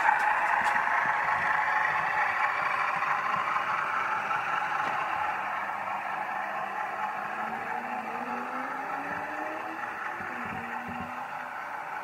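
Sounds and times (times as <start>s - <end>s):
model train whirring: 0.0s - 12.0s
wheels rattling on rail: 0.0s - 12.0s.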